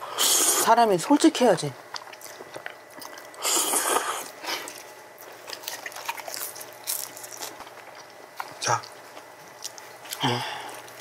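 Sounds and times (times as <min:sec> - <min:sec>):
chewing with wet mouth smacks: 0:01.8 - 0:11.0.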